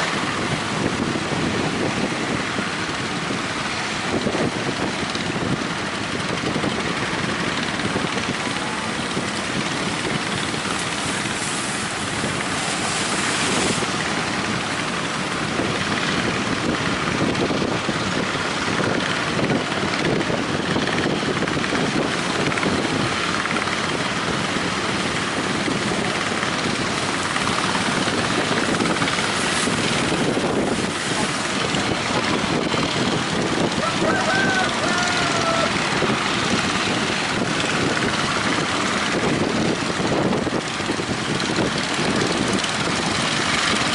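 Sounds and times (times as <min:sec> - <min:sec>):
waves breaking on shore: 0:00.0 - 0:43.9
wind buffeting microphone: 0:00.0 - 0:43.9.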